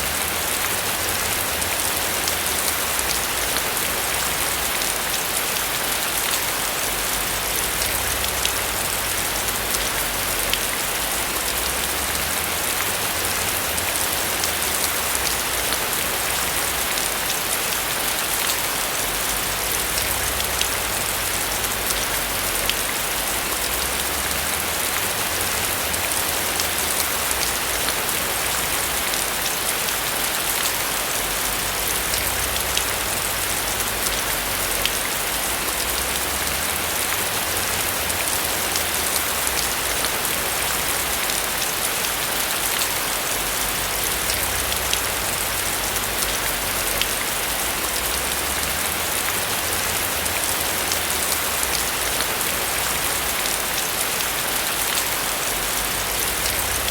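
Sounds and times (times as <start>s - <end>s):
rain on a roof: 0.0s - 56.9s.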